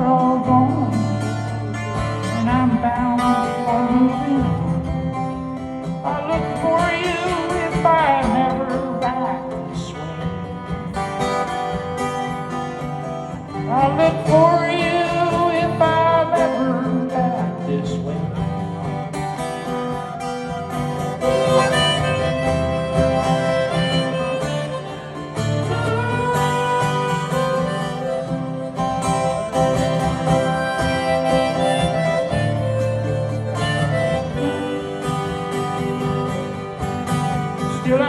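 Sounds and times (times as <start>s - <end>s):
harmonica solo: 0.0s - 38.0s
strummed acoustic guitar: 0.0s - 38.0s.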